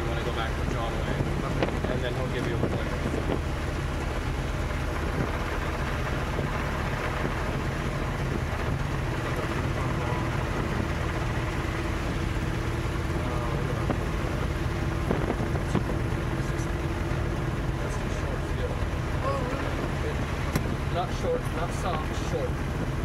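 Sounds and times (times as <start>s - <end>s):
airplane engine and propeller drone: 0.0s - 23.0s.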